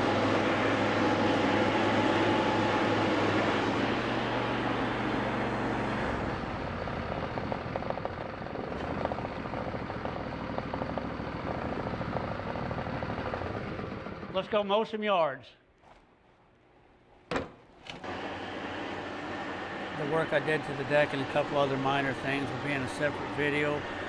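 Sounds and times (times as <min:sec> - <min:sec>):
lawn tractor engine running: 0:00.0 - 0:14.6, 0:17.8 - 0:24.0.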